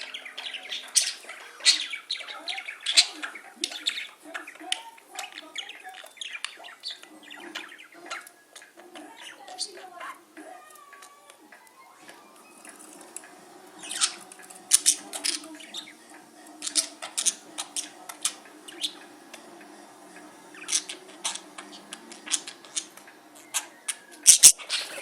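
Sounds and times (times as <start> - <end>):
bird clicks and squeaks: 0.0 - 11.8, 12.6 - 15.9, 16.6 - 19.1, 20.6 - 25.0.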